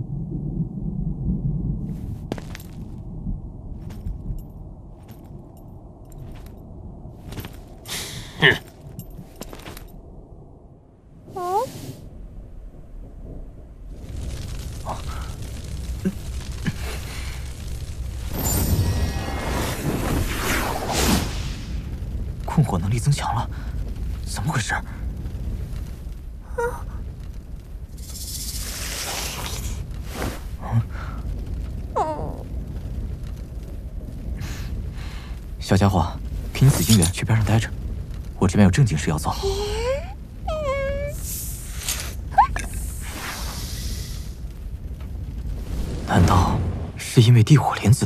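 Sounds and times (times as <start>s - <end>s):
low ambient rumble: 0.0s - 48.0s.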